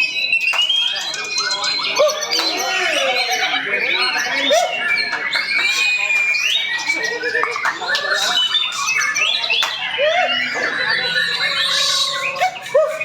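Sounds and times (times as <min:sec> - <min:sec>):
songbirds singing whistles and chirps: 0:00.0 - 0:13.0.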